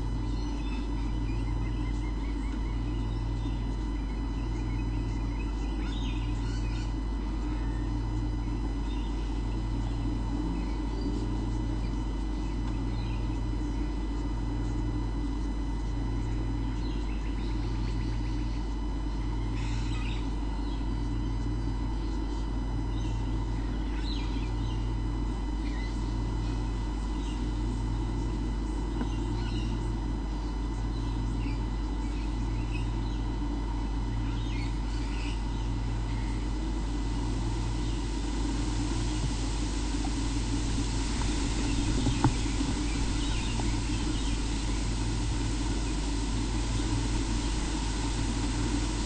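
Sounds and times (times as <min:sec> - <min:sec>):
faint steady whine tones: 0:00.0 - 0:49.0
low pulsing throb: 0:00.0 - 0:49.0
steady electrical hum: 0:00.0 - 0:49.0.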